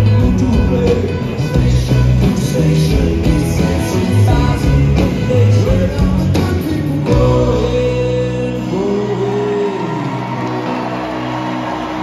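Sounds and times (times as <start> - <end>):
man singing through pa: 0.0 - 10.4
electric guitar and bass: 0.0 - 12.0.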